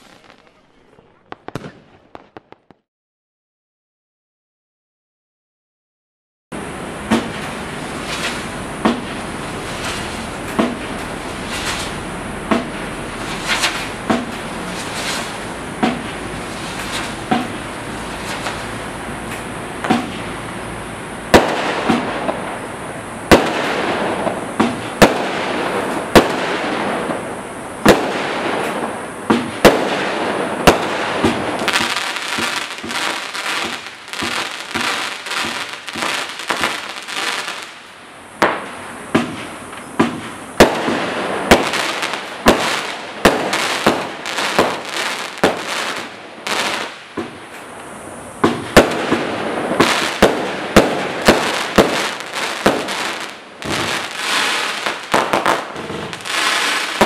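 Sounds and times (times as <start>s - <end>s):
firework hissing: 0.0s - 2.8s, 6.6s - 57.0s
firework crackling: 0.0s - 2.9s, 6.6s - 57.0s
firework shots and bursts: 0.0s - 2.9s, 6.8s - 20.6s, 21.2s - 47.8s, 48.4s - 57.0s.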